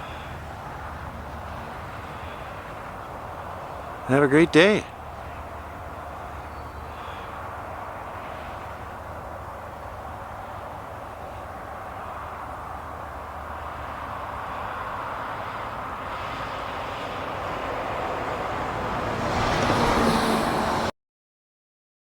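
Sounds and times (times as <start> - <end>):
road vehicle noise: 0.0 - 20.9.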